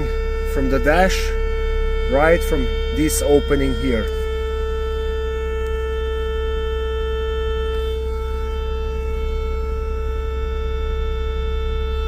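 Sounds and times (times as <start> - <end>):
loud whining buzz: 0.0 - 12.0.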